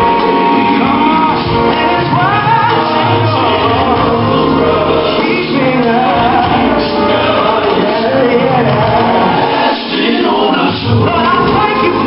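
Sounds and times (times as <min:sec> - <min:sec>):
gospel song over loudspeakers: 0:00.0 - 0:12.0.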